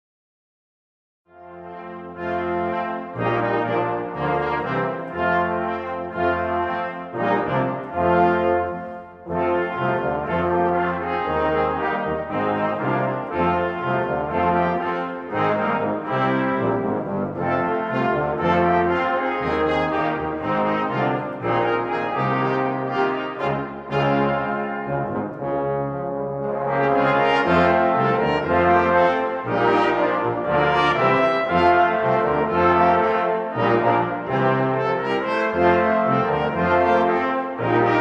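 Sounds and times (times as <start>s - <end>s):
brass choir playing sustained chords: 1.3s - 38.0s.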